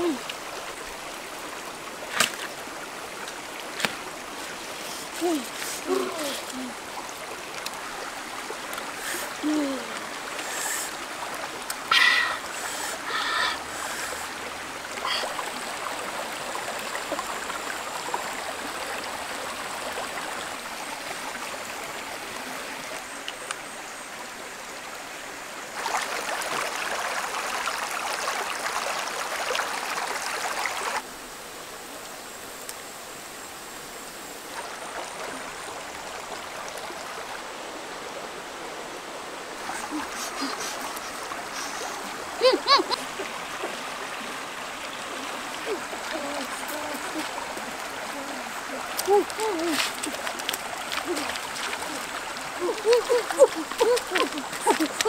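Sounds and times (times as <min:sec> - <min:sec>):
rocky stream running: 0:00.0 - 0:55.0.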